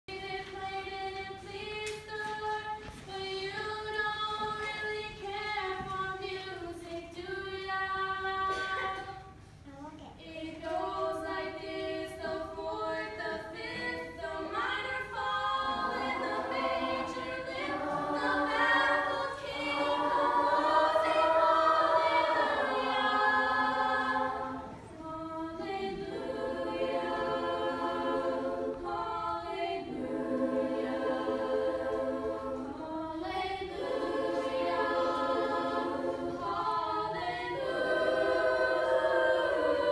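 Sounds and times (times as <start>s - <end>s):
youth choir singing: 0.1s - 9.4s, 10.2s - 39.9s.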